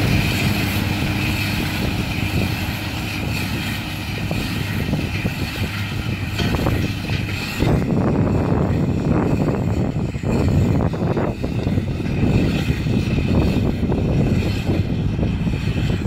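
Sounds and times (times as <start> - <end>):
baler machinery running: 0.0 - 16.0
tractor engine running under load: 0.0 - 16.0.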